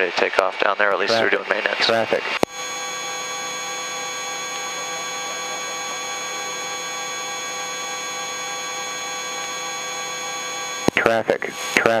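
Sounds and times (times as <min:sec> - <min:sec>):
helicopter turbine hum and whine: 0:00.8 - 0:12.0.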